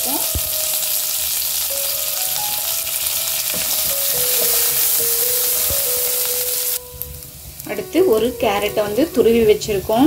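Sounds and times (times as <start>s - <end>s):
leaves sizzling in hot oil: 0.0s - 10.0s.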